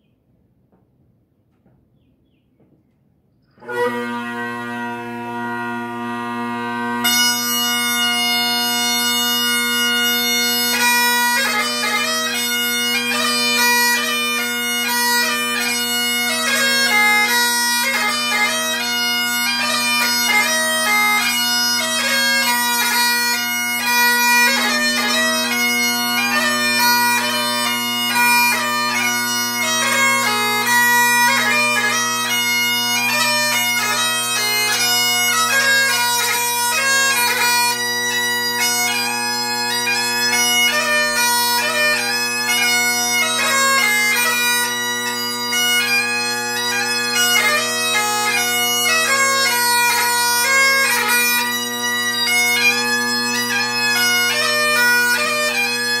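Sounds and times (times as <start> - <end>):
bagpipe chanter melody: 3.6 - 56.0
bagpipe drones: 3.6 - 56.0.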